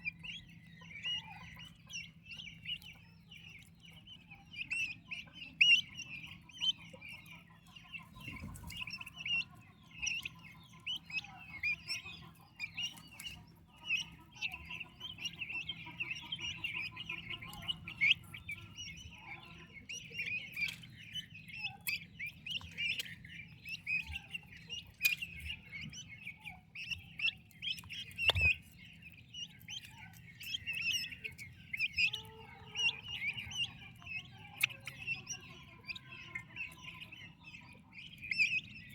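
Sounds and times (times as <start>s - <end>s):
turkey poults peeping: 0.0s - 38.9s.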